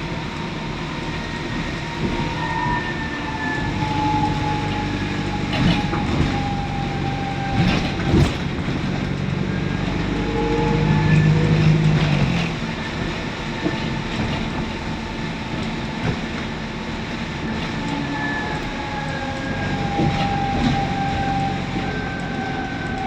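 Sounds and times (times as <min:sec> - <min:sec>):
bus engine drone: 0:00.0 - 0:23.0.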